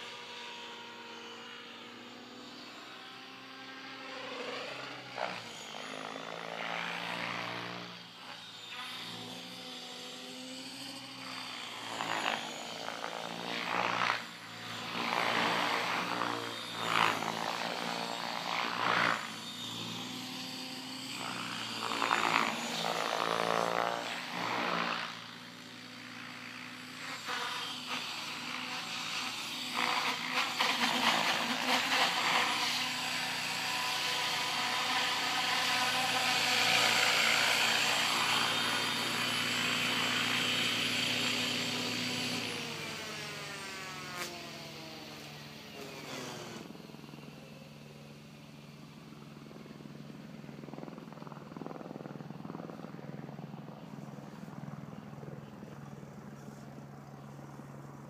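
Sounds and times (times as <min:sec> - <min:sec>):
rotor blade noise: 0:00.0 - 0:48.1
rc helicopter motor whine: 0:00.0 - 0:58.0.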